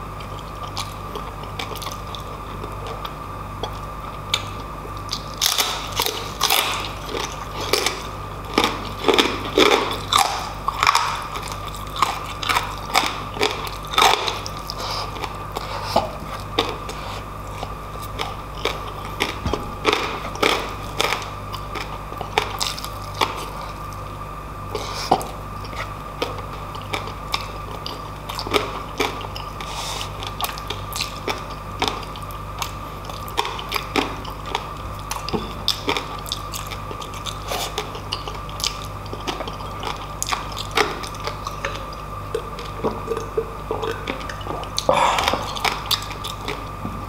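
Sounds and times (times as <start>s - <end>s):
man chewing crackly food: 0.0s - 47.0s
steady hum: 0.0s - 47.0s.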